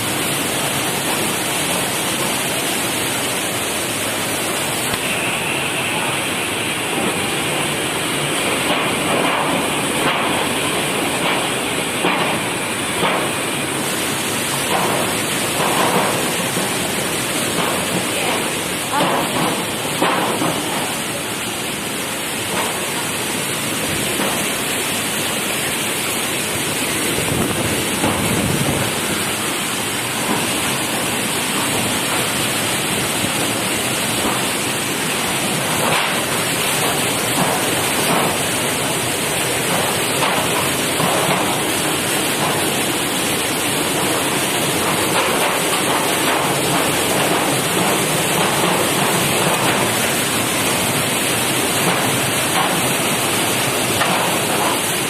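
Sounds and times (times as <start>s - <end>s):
rain: 0.0s - 55.0s
running water: 0.0s - 55.0s.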